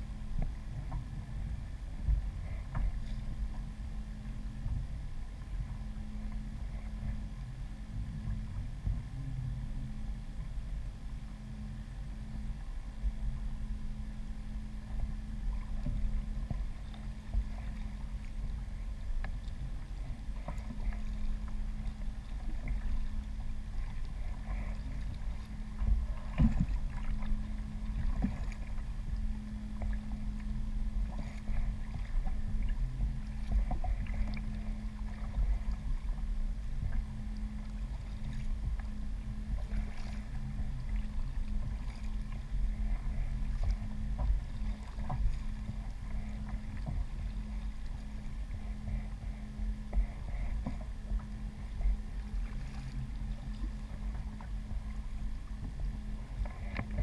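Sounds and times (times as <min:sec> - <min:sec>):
low steady hum and rumble: 0:00.0 - 0:57.0
water sloshing against hull: 0:00.0 - 0:57.0.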